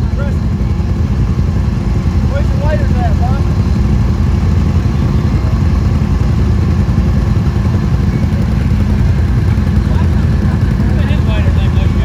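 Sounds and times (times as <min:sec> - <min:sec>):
off-road vehicle engines running: 0:00.0 - 0:12.0.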